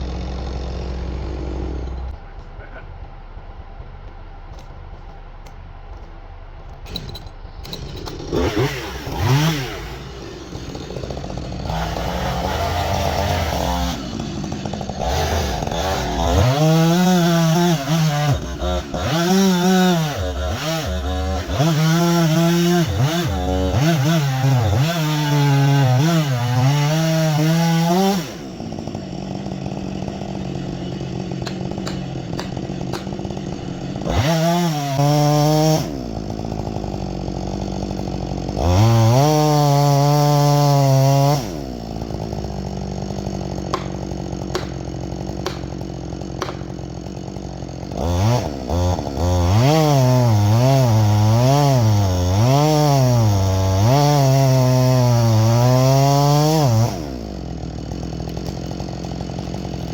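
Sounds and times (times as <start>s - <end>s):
chainsaw running: 0.0s - 2.7s, 7.2s - 59.9s.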